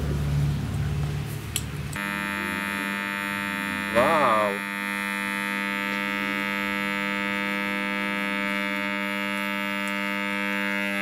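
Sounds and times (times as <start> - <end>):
transformers humming: 0.0 - 11.0.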